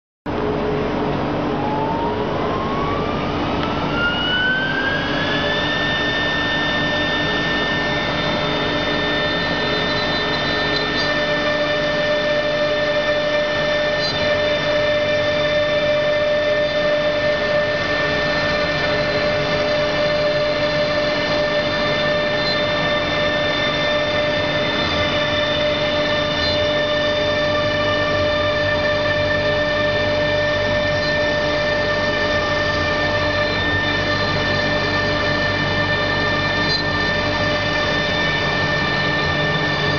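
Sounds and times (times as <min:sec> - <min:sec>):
loud machine noise: 0:00.3 - 0:39.9
spindle whine: 0:00.3 - 0:39.9.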